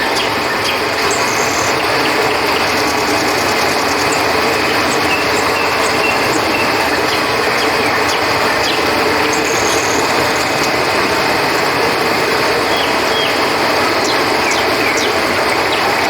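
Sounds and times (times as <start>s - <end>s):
crickets chirping: 0.0s - 16.0s
flowing river water: 0.0s - 16.0s.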